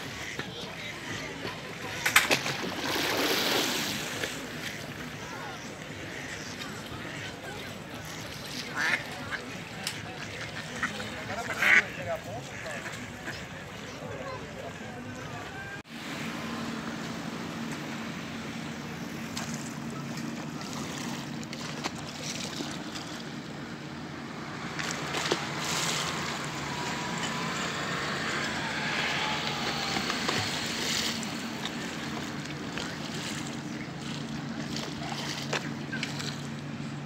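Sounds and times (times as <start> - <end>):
wind and water rushing: 0.0 - 9.8, 15.8 - 36.0.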